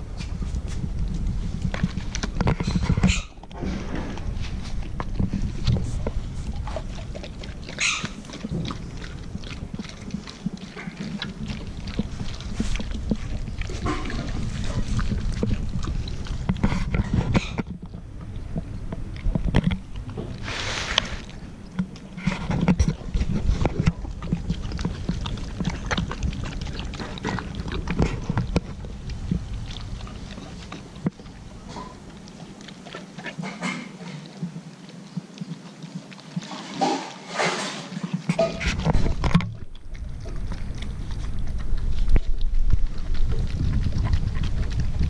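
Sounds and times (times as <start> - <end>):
dog chewing wetly: 0.0 - 45.0.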